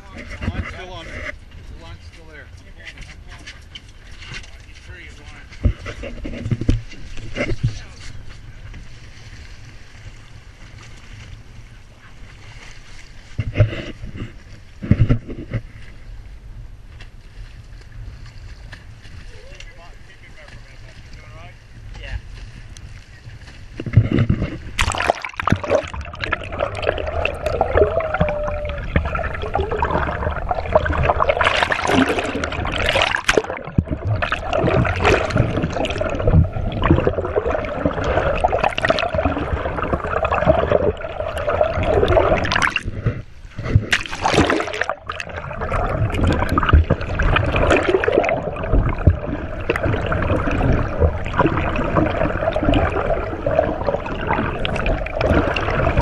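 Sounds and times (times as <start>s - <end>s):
water splashing and gurgling: 0.0s - 56.0s.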